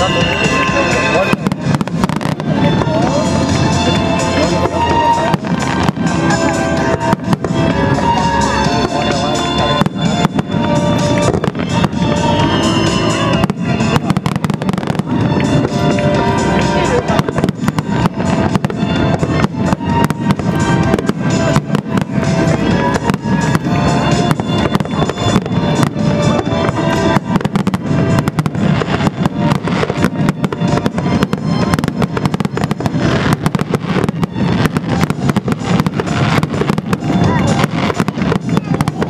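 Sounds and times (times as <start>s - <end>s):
fireworks banging and crackling: 0.0s - 39.0s
music with held notes: 0.0s - 39.0s.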